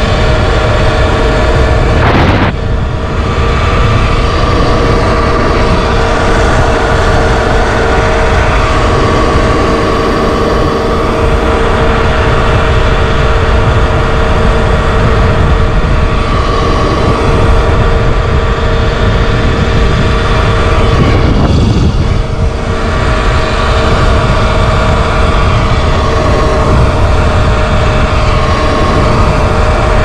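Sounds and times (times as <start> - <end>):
electric motor whine: 0.0 - 30.0
wind buffeting microphone: 0.0 - 30.0.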